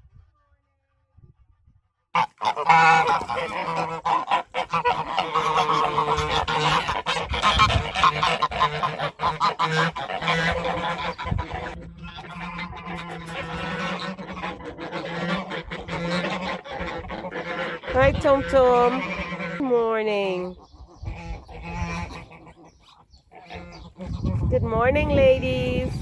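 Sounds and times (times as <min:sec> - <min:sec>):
geese honking: 0:02.2 - 0:26.0.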